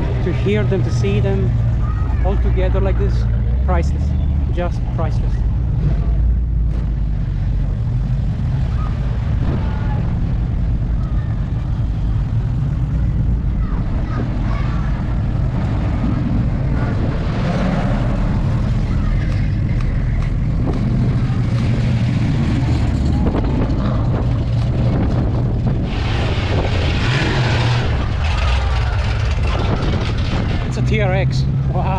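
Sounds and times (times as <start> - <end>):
car engines rumbling past: 0.0 - 31.9.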